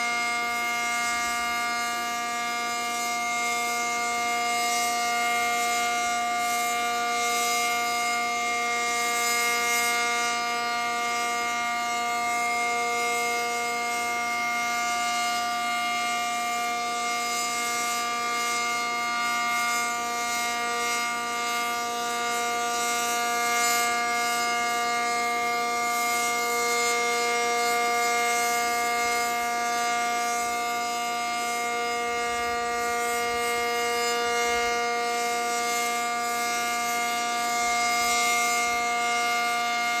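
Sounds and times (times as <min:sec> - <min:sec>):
warning siren steady tone: 0:00.0 - 0:40.0.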